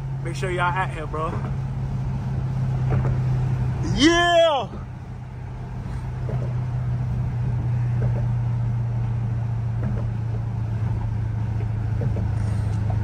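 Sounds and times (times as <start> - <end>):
car engine droning inside cabin: 0.0 - 13.0.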